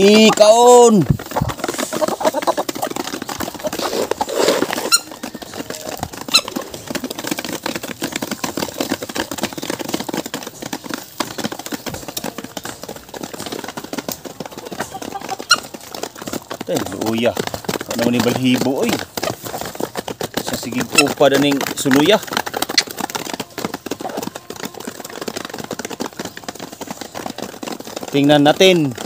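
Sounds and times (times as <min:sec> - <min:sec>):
hens pecking on wooden trough: 0:00.0 - 0:29.0.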